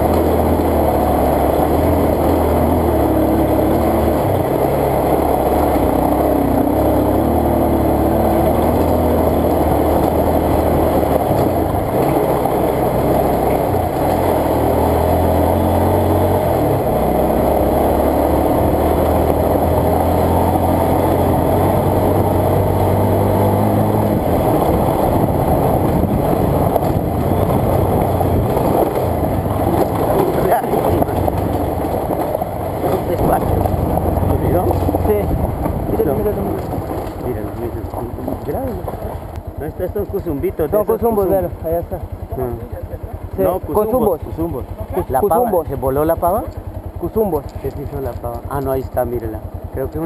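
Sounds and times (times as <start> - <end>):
motorcycle engine running: 0.0 - 50.0
wind and road noise: 0.0 - 50.0.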